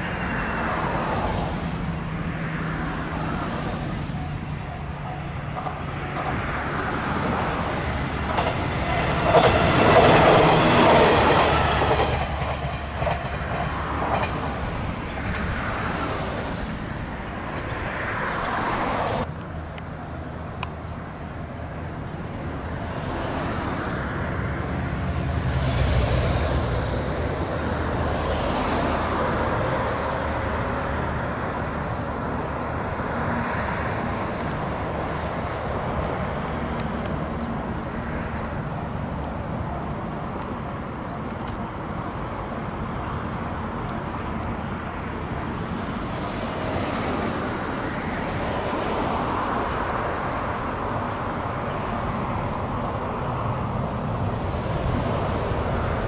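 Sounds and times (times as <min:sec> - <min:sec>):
train wheels on rails: 0:00.0 - 0:19.3, 0:20.5 - 0:56.0
diesel train engine passing: 0:00.0 - 0:56.0.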